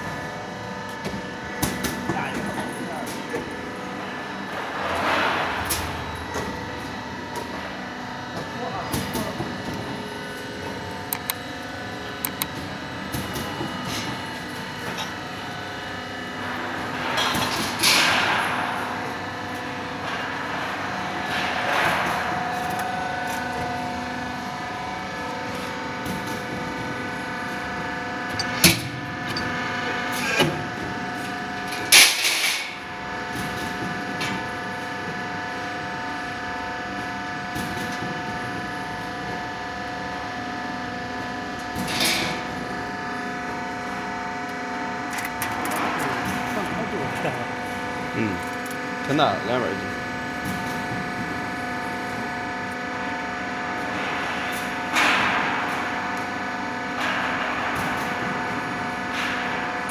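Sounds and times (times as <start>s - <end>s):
roll forming machine humming: 0.0s - 59.9s.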